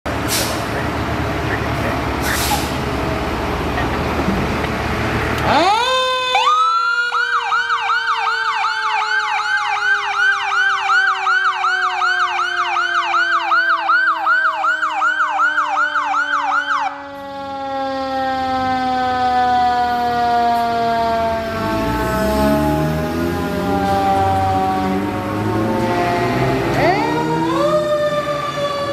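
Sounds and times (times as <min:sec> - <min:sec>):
electronic siren yelping: 0:05.4 - 0:28.9
mechanical siren winding down: 0:05.4 - 0:28.9.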